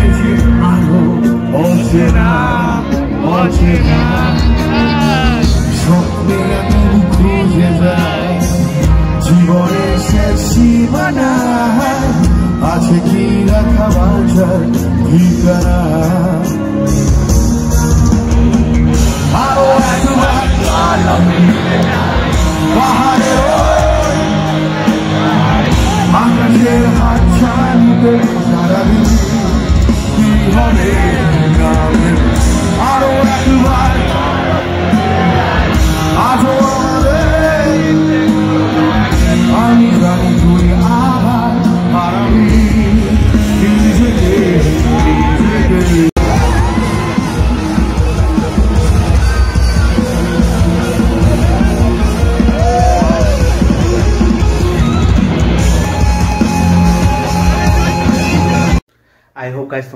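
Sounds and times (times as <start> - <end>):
person singing: 0.0 - 17.0, 17.7 - 58.8
electric guitars: 0.0 - 58.8
live rock band playing: 0.0 - 58.9.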